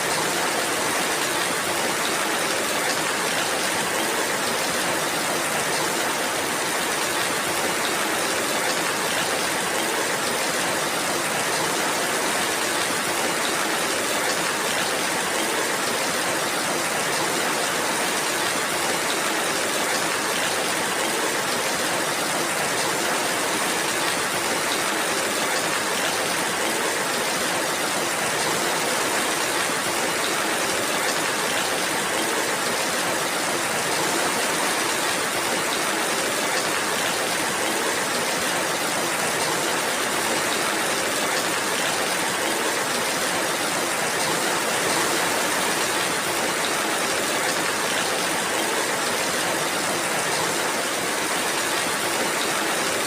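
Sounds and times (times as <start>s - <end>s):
steady rainfall hiss: 0.0s - 53.0s.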